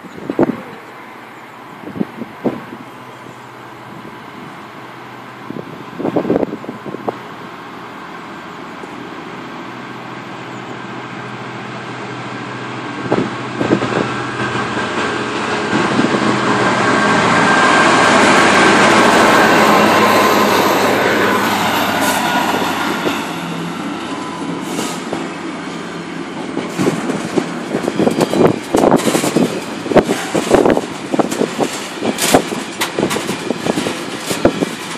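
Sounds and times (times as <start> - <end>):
diesel locomotive passing: 0.0 - 34.9
wagons rattling over rail joints: 1.9 - 34.9.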